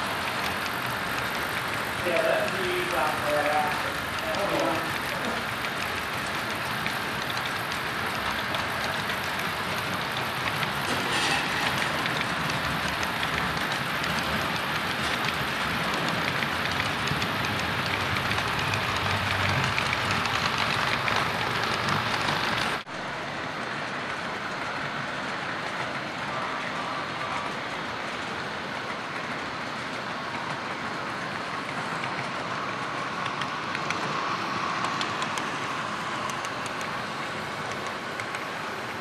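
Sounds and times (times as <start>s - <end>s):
model train wheels clattering on rails: 0.0s - 22.9s, 23.8s - 39.0s.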